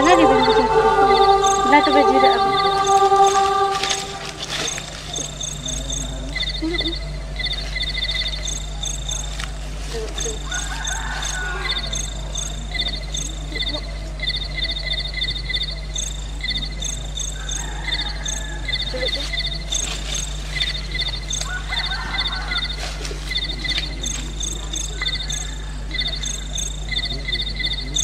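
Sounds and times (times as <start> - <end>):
insects chirping in pulses: 0.0 - 28.0
low steady hum: 0.0 - 28.0.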